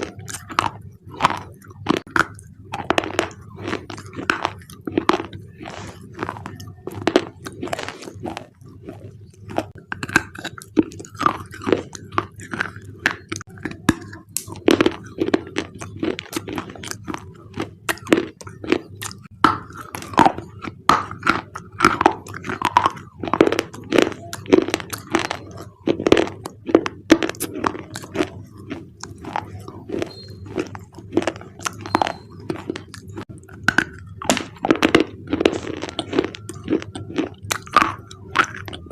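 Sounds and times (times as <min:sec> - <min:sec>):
crunching and chewing: 0:00.0 - 0:38.9.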